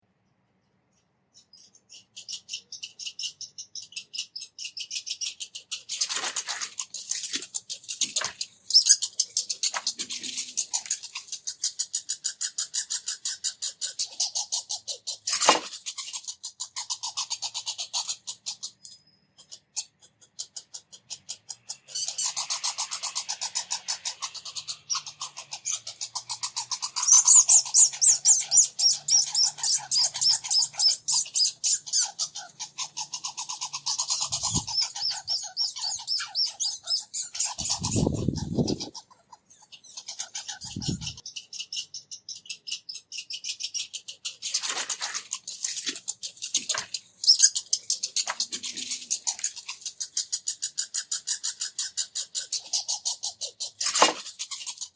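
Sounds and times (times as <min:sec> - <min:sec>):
squirrels chattering: 0:01.2 - 0:54.9.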